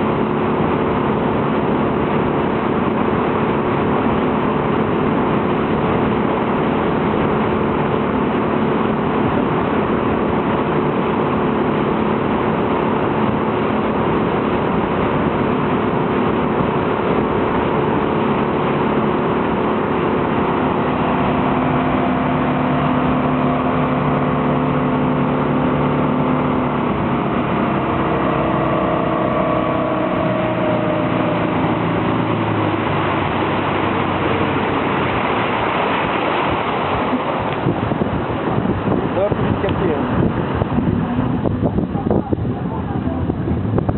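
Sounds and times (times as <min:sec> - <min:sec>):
motorboat engine running: 0:00.0 - 0:43.9
wind and water rushing: 0:00.0 - 0:43.9.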